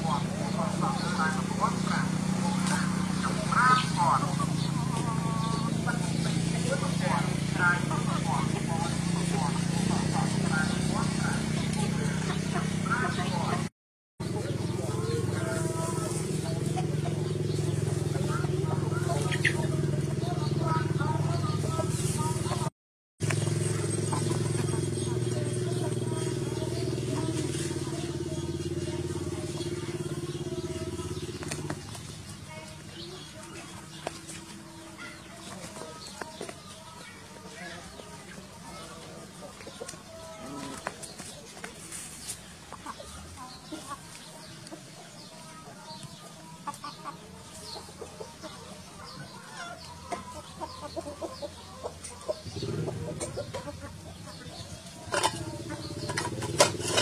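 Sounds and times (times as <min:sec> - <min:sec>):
chickens clucking: 0:00.0 - 0:57.0
engine humming: 0:00.0 - 0:57.0.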